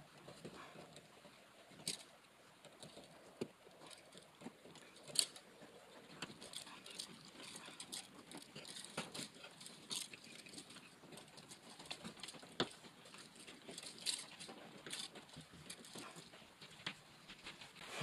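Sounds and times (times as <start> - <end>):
cable rustling and scraping: 0.2 - 18.0.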